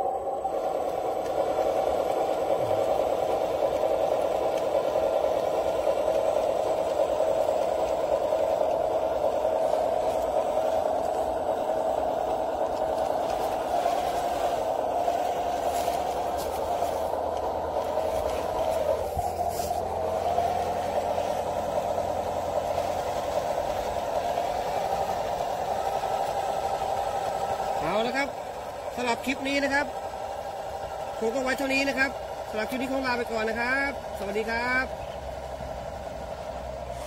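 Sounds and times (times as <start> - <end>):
small engine running steadily: 0.0 - 37.0
tracks rattling: 0.0 - 37.0.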